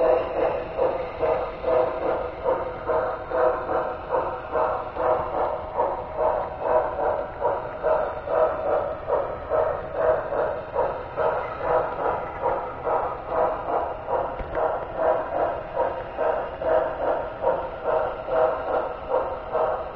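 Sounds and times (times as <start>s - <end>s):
model train running gear pulsing: 0.0s - 19.9s.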